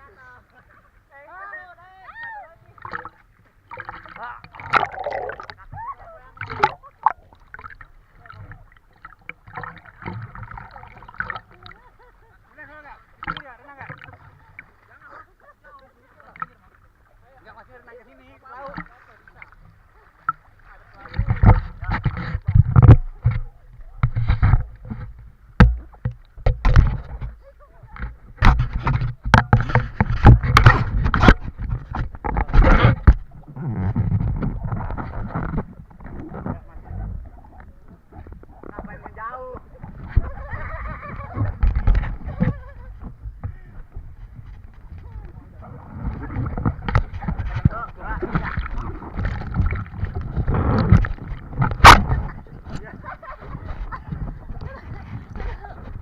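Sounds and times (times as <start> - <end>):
sea water splashing and rushing: 1.3 - 33.6, 34.2 - 56.0.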